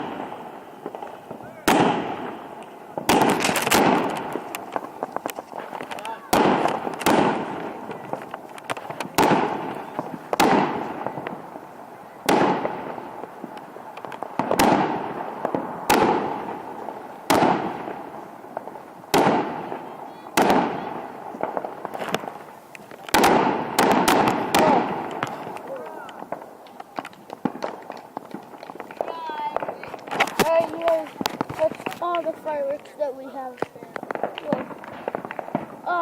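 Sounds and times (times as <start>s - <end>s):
fireworks bangs with hiss: 0.0s - 36.0s.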